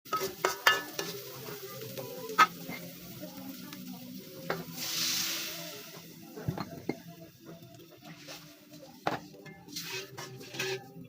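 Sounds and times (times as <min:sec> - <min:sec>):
food sizzling in a pan: 0:00.1 - 0:11.0.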